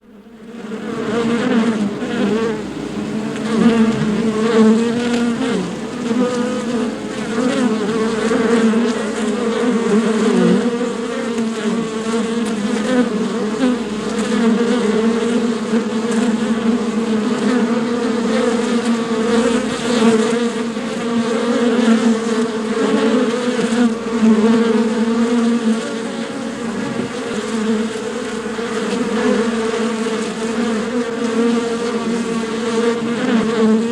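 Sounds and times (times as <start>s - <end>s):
bees buzzing: 0.0s - 33.9s.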